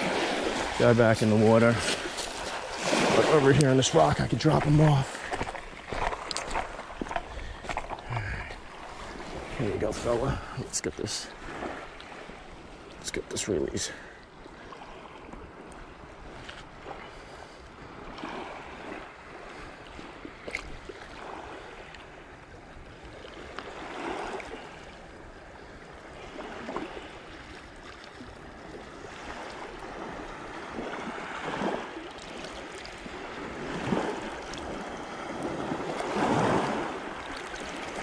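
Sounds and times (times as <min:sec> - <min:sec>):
water lapping against rocks: 0:00.0 - 0:22.1, 0:26.0 - 0:38.0.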